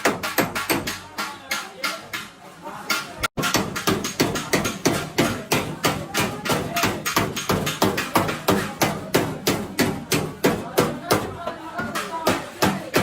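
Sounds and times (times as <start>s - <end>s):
hammer striking sheet metal: 0.0s - 13.0s.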